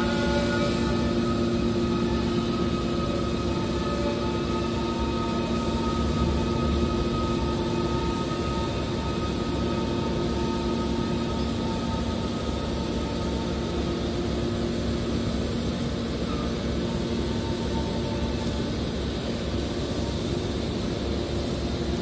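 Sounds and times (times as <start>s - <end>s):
hydraulic machine humming: 0.0s - 22.0s.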